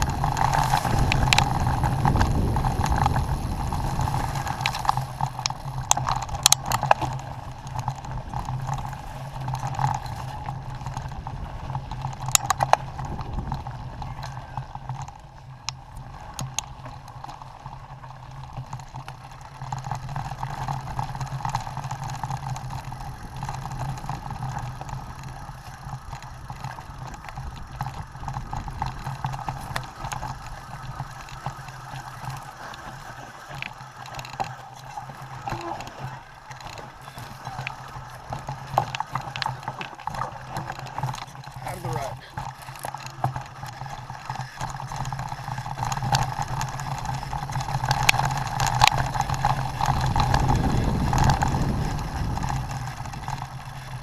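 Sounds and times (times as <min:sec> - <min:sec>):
bike rattling over bumps: 0:00.0 - 0:54.0
bike tyres rolling on dirt: 0:00.0 - 0:54.0.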